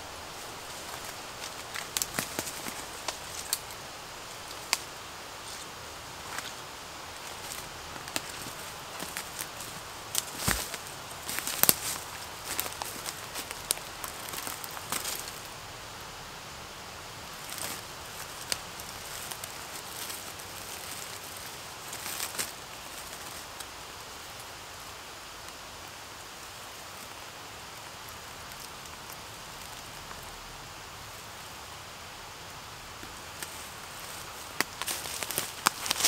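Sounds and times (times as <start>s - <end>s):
outdoor hiss: 0.0s - 36.0s
rustling of dry leaves and twigs: 0.0s - 36.0s.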